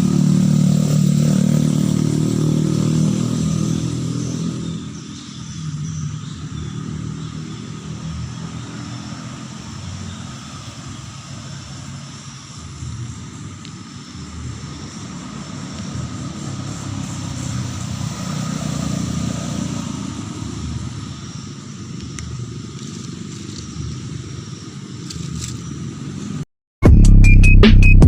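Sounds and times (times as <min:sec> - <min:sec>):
passing vehicle engine rumble: 0:00.0 - 0:26.4.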